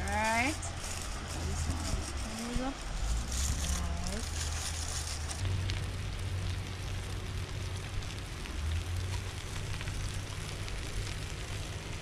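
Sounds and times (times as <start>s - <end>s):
faint crackles: 0.0s - 12.0s
low rumble: 0.0s - 12.0s
steady rushing hiss: 0.0s - 12.0s.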